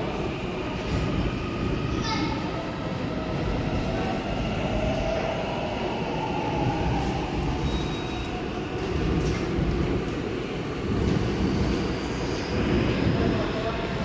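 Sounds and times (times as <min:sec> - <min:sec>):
electric train rumbling in tunnel: 0:00.0 - 0:14.0.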